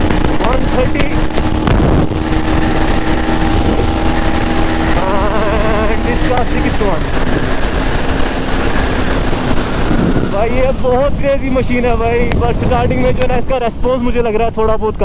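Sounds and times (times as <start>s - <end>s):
motorcycle engine buzzing at high revs: 0.0s - 14.1s
wind rushing over microphone: 0.0s - 15.0s.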